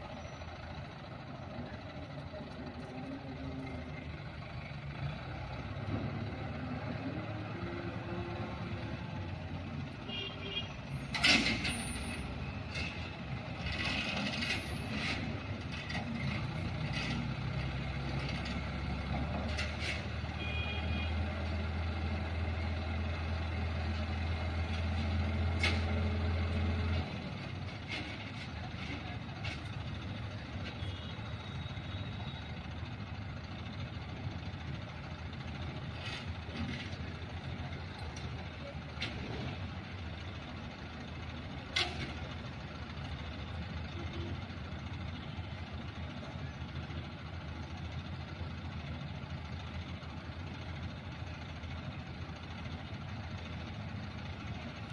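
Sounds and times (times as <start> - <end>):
crane diesel engine droning: 0.0 - 54.9.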